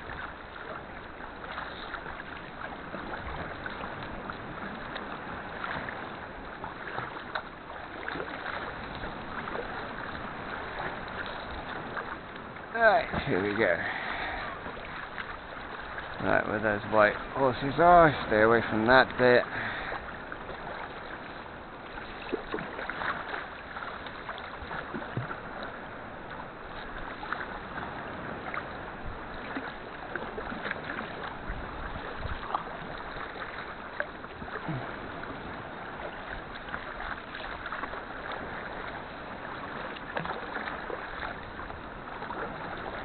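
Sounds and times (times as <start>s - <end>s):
paddle and wave splashes: 0.0s - 43.0s
sea washing around hull: 0.0s - 43.0s.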